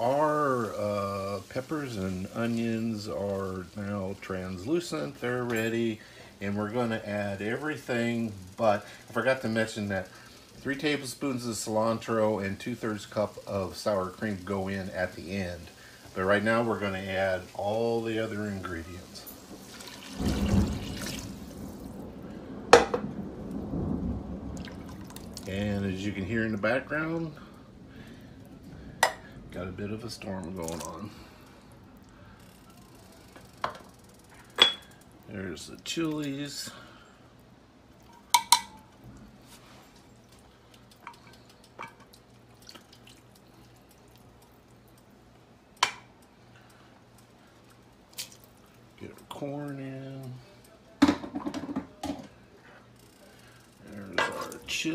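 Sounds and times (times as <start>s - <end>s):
broth pouring into a pot: 0.0s - 23.5s, 24.4s - 29.2s, 29.8s - 49.4s.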